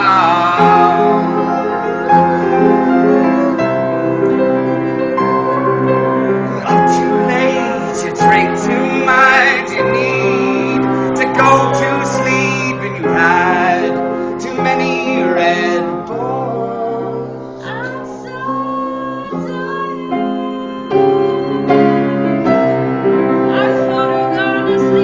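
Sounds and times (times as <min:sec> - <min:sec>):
person singing long notes: 0:00.0 - 0:22.8
piano chords: 0:00.0 - 0:25.0.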